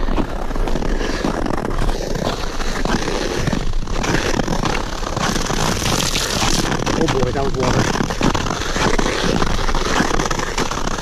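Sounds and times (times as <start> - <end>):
ice skate blades scraping ice: 0.0 - 11.0.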